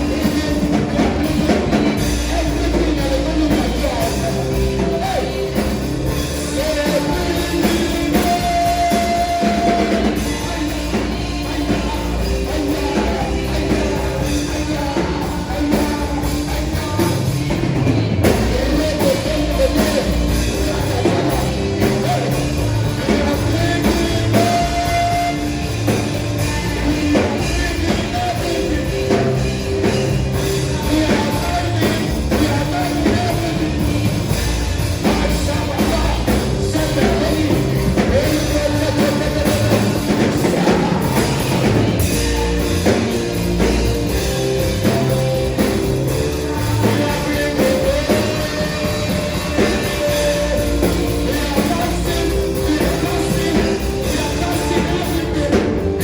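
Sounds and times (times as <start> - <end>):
band playing worship music: 0.0 - 56.0
voices singing: 0.0 - 56.0.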